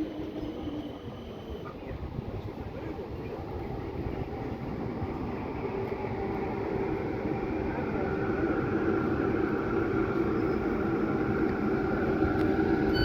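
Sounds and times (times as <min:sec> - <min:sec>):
steady train hum: 0:00.0 - 0:13.0.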